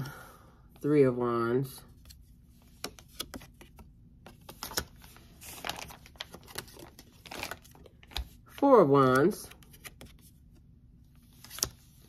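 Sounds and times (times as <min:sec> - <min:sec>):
cards rustling: 0:01.9 - 0:12.0.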